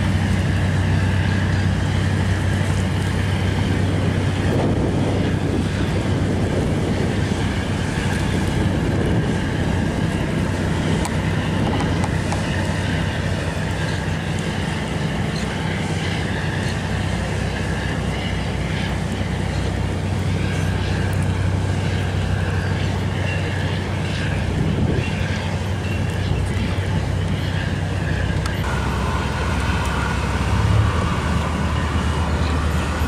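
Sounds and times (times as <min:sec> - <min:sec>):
boat engine droning: 0:00.0 - 0:33.0
water washing: 0:00.0 - 0:33.0
wind buffeting microphone: 0:00.0 - 0:33.0.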